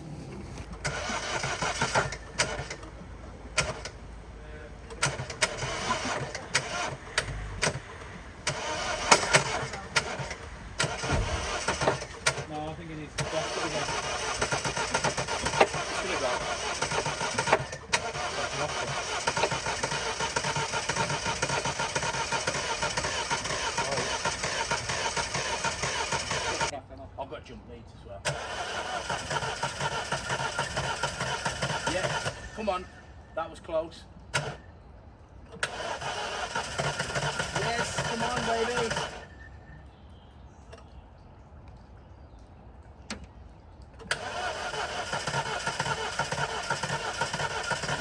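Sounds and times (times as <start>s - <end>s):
car engine cranking: 0.0s - 26.7s, 28.2s - 33.2s, 34.3s - 34.7s, 35.5s - 39.8s, 44.0s - 48.0s.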